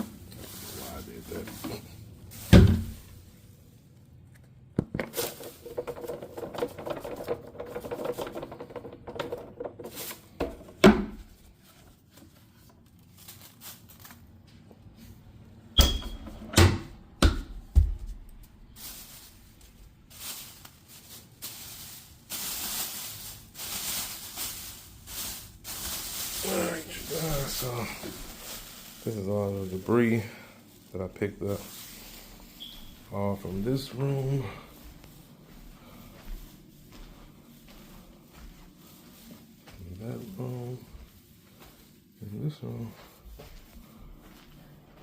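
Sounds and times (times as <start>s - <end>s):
rustling: 0.0s - 15.5s, 17.9s - 45.0s.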